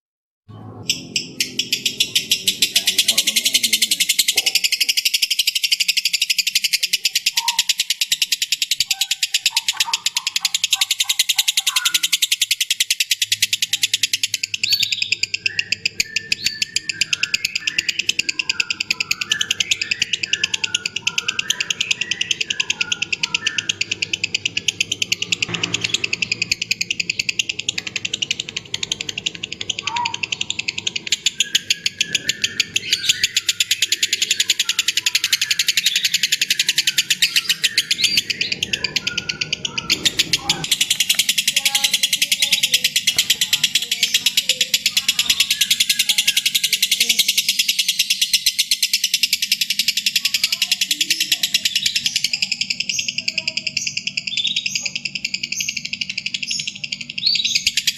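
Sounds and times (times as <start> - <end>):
bird high-pitched chattering: 0.5 - 57.9
lower bird chirps: 0.5 - 57.9.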